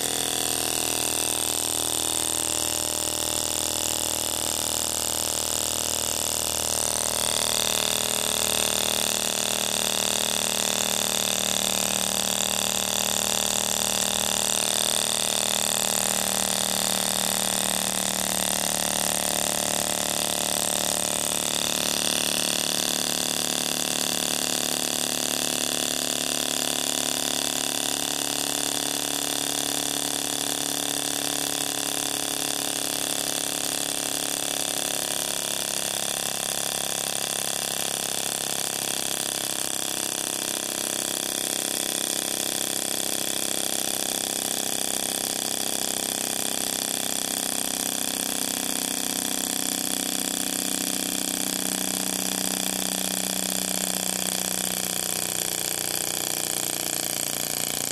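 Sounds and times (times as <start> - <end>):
model engine buzzing: 0.0 - 57.9.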